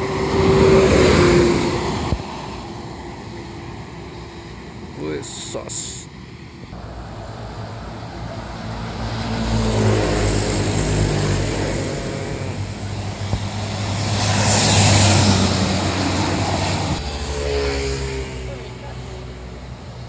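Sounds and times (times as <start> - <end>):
tyre and air rush: 0.0 - 17.2
diesel vehicles passing: 0.0 - 20.0.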